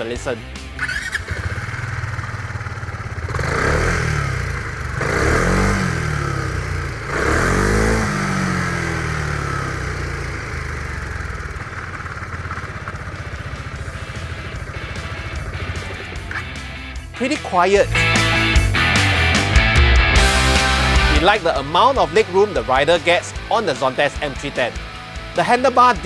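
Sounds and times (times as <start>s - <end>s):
scooter engine idling and revving: 0.0s - 26.0s.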